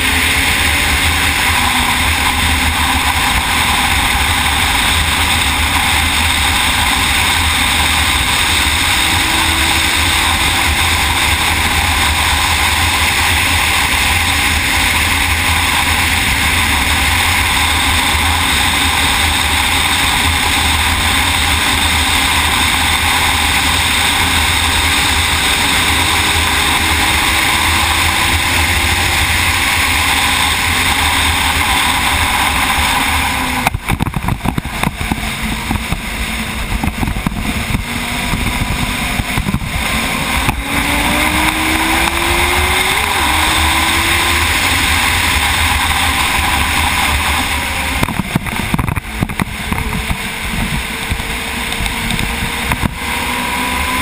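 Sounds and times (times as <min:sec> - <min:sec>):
racing motorcycle engine: 0:00.0 - 0:54.0
wind rush over microphone: 0:00.0 - 0:54.0.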